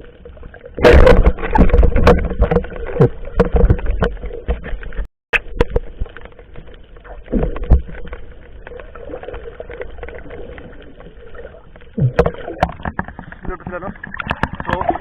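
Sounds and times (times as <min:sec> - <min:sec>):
water noise: 0:00.0 - 0:15.0.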